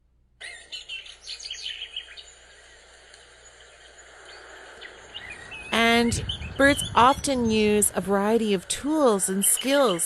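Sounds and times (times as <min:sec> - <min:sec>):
small birds chirping: 0:00.4 - 0:10.0
steady background hiss: 0:00.7 - 0:10.0.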